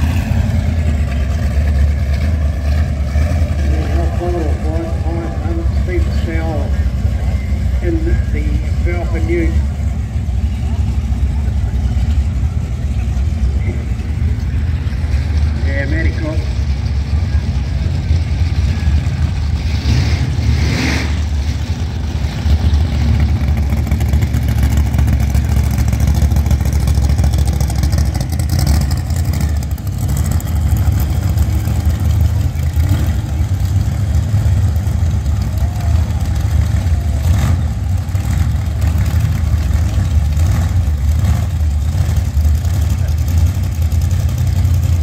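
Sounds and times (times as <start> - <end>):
drag-racing car engines rumbling: 0.0 - 45.0.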